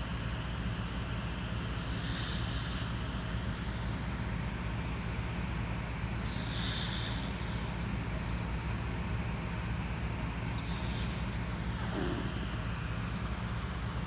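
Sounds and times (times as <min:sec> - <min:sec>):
dog snoring drone: 0:01.0 - 0:14.0.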